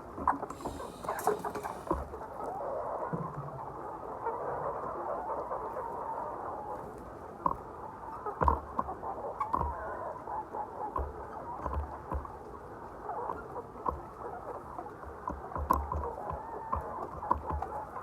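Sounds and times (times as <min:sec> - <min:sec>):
hens chattering and clucking: 0:00.0 - 0:18.0.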